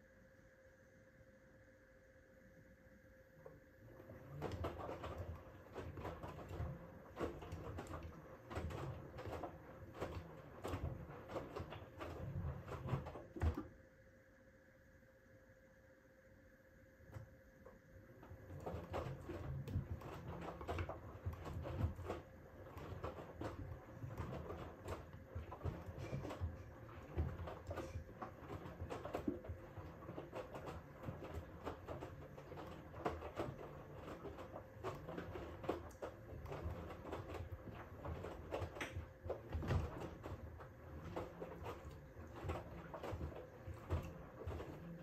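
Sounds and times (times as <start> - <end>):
faint steady hum: 0.0 - 45.0
washing machine drum rumbling: 4.0 - 13.8, 18.2 - 45.0.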